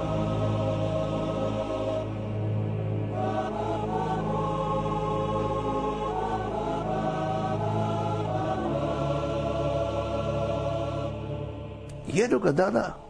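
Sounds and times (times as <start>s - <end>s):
choir holding long notes: 0.0s - 12.0s
low steady drone: 0.0s - 12.1s.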